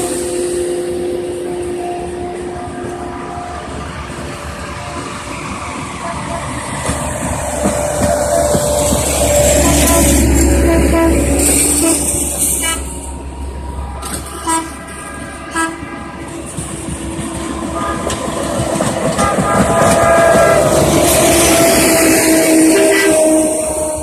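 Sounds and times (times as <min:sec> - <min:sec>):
rail equipment rumbling: 0:00.0 - 0:24.0.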